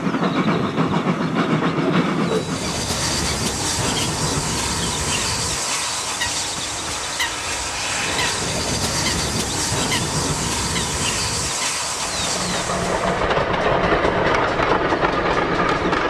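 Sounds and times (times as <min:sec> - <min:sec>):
steam train wheels clattering: 0:00.0 - 0:16.0.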